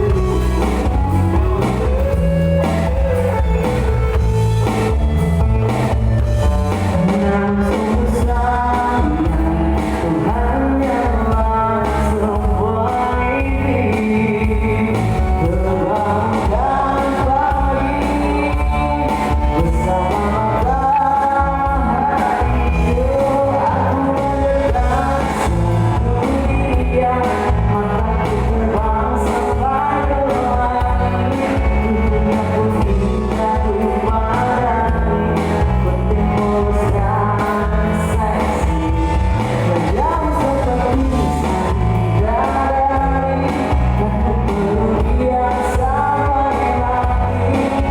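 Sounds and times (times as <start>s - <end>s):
person singing: 0.0s - 47.9s
pop-rock band playing: 0.0s - 47.9s.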